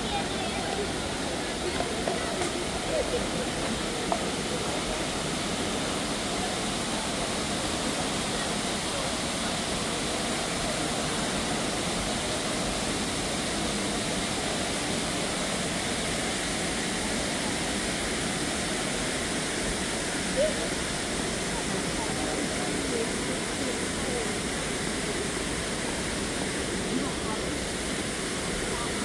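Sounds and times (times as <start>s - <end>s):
water falling into a pond: 0.0s - 29.0s.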